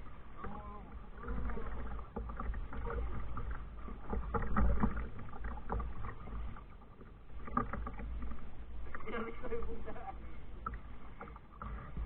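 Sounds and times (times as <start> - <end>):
paddle splashes and knocks: 0.0 - 12.0.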